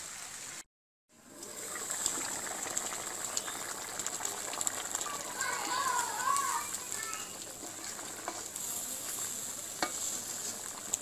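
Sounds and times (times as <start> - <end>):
curry bubbling with pops: 1.1 - 11.0.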